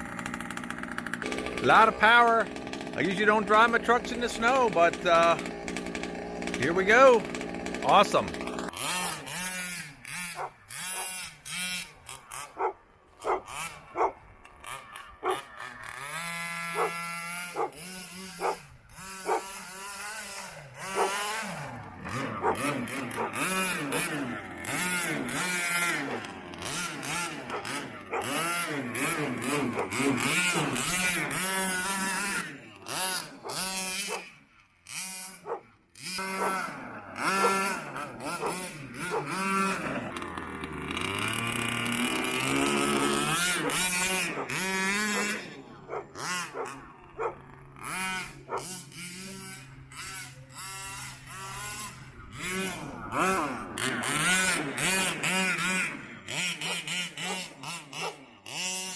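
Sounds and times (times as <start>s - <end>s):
two-stroke engine revving: 0.0s - 58.9s.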